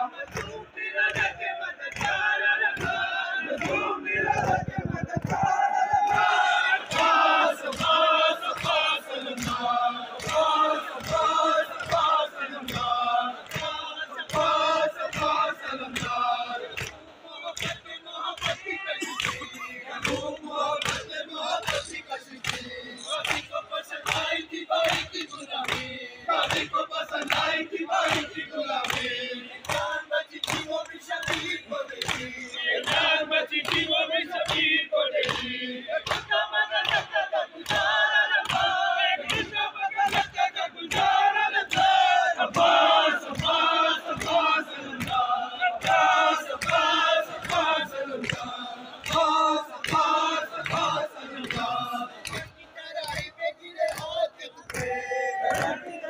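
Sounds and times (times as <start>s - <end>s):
men chanting in unison: 0.0s - 56.0s
hands slapping chests: 0.3s - 17.0s, 18.4s - 55.8s.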